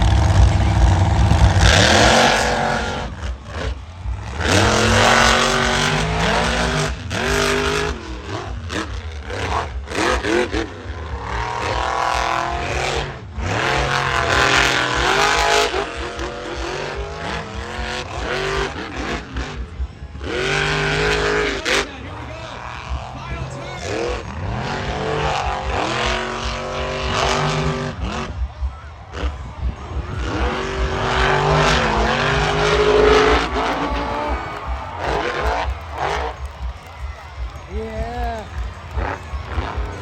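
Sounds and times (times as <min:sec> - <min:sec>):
monster truck engines revving: 0:00.0 - 0:40.0.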